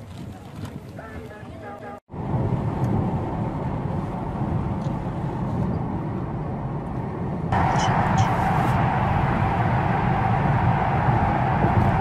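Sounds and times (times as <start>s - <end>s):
car road and engine noise: 0.1s - 12.0s.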